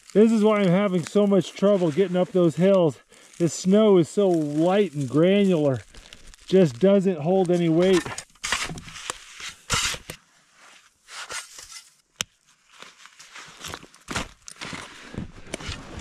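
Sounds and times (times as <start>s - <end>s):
powder snow crunching: 0.0s - 11.2s, 12.7s - 16.0s.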